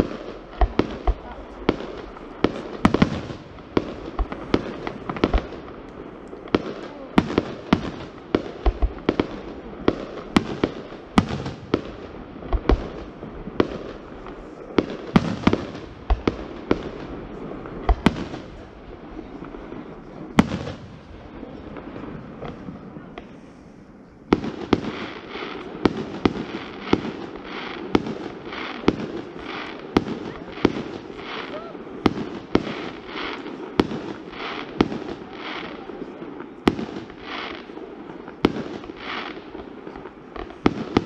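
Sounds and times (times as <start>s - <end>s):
crackling hiss: 0.0s - 41.0s
fireworks bursting with bangs: 0.0s - 41.0s.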